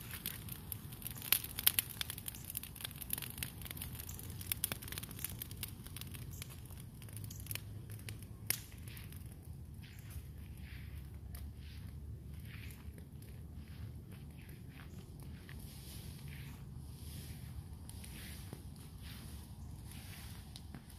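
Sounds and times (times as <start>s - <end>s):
branches burning and crackling: 0.0s - 20.9s.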